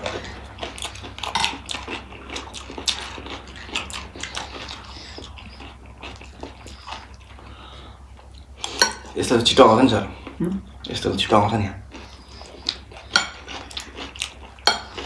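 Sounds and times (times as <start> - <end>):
chewing: 0.0 - 9.2, 11.9 - 15.0.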